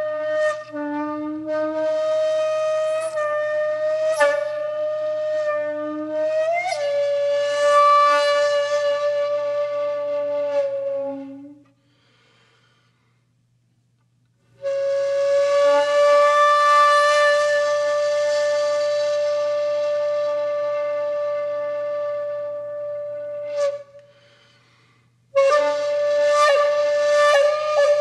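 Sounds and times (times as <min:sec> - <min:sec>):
long held woodwind note: 0:00.0 - 0:12.1, 0:14.6 - 0:24.6, 0:25.3 - 0:28.0.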